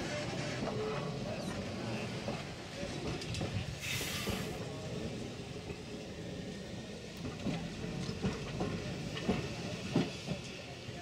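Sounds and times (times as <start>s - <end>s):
railcar rolling on track: 0.0s - 11.0s.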